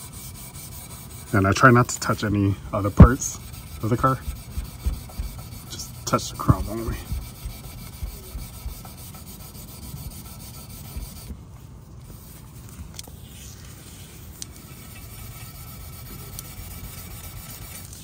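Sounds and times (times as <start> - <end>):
steel wool scrubbing metal: 0.0 - 11.3, 13.9 - 18.0.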